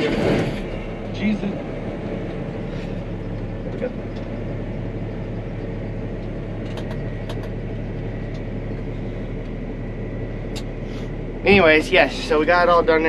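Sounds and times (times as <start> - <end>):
tractor engine droning: 0.0 - 13.0
faint steady whine: 0.5 - 13.0.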